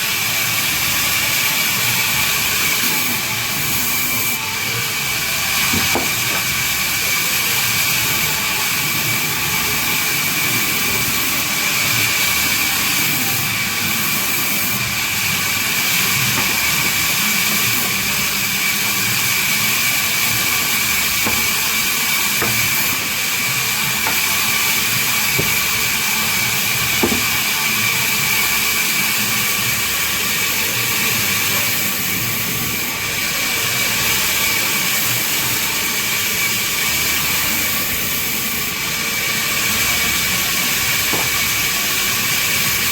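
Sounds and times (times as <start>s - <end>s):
band saw cutting wood: 0.0s - 42.9s.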